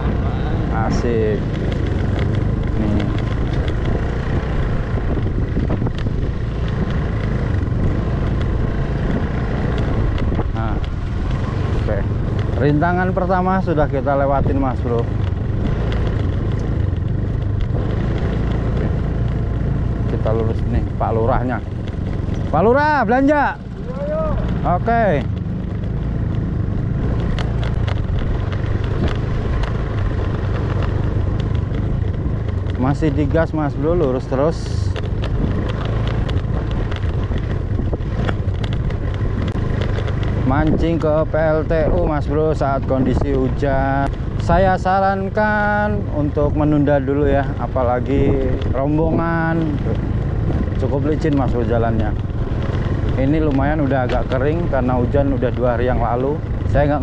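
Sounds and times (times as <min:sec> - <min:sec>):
light clicks and rattles: 0:00.0 - 0:57.0
scooter engine running: 0:00.0 - 0:57.0
wind and road rumble: 0:00.0 - 0:57.0.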